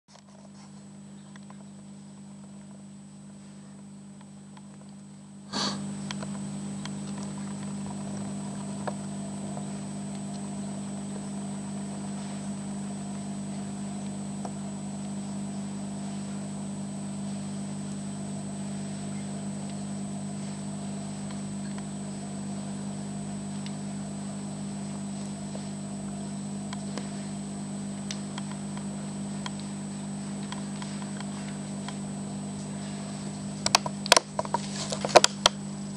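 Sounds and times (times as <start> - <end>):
aquarium equipment humming: 0.1 - 35.9
thin high whine: 0.1 - 35.9.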